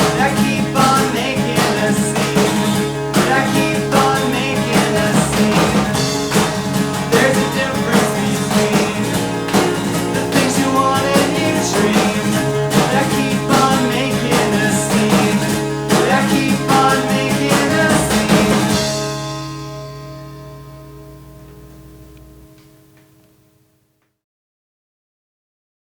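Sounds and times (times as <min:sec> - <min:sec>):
rock band with guitars: 0:00.0 - 0:23.3.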